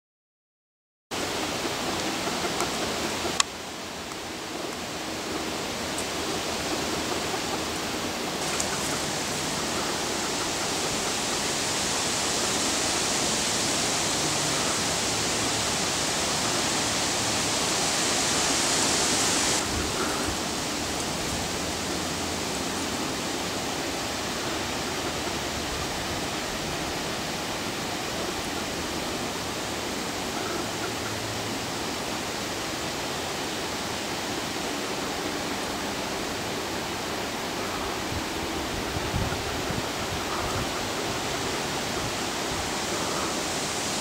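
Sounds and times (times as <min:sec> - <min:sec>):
steady rushing noise: 0:01.2 - 0:44.0.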